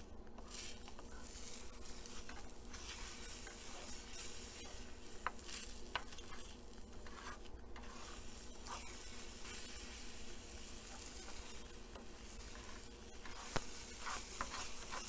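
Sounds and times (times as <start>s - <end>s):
faint sizzling: 0.0s - 15.0s
spatula scraping frying pan: 0.5s - 15.0s.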